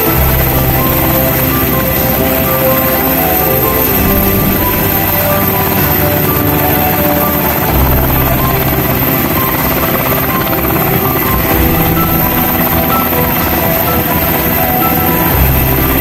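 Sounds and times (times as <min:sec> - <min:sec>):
background music: 0:00.0 - 0:16.0
helicopter engines and rotor: 0:00.0 - 0:16.0.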